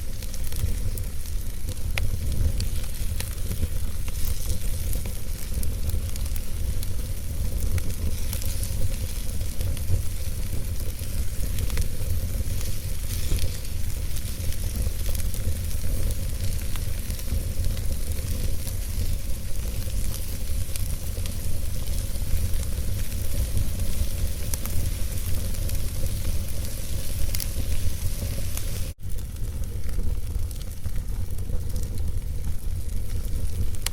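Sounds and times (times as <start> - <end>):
fire hissing and rumbling: 0.0 - 33.9
wood crackling and popping: 0.0 - 33.9.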